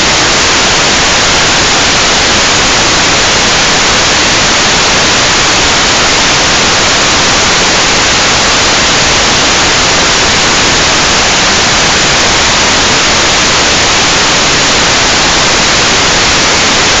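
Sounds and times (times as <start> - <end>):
loud static hiss: 0.0 - 17.0.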